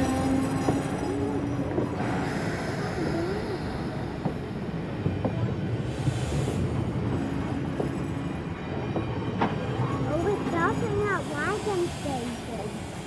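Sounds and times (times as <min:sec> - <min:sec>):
wheels clacking over rail joints: 0:00.0 - 0:02.4, 0:04.2 - 0:12.8
train coaches rumbling: 0:00.0 - 0:13.0.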